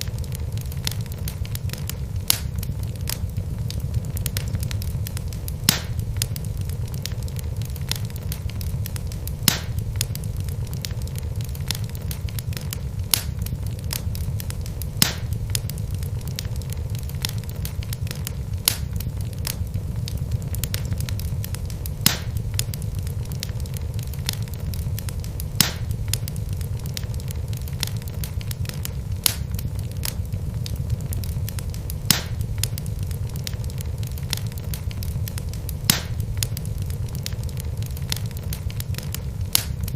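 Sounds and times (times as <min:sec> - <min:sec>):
fire crackling: 0:00.0 - 0:39.9
fire low rumble: 0:00.0 - 0:39.9
wood popping in fire: 0:00.0 - 0:39.9.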